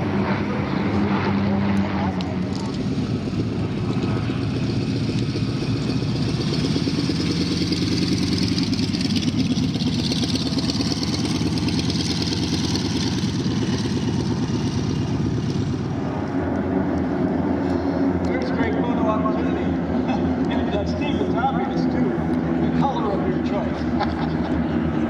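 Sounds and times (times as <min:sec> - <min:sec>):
propeller airplane engine: 0:00.0 - 0:25.0.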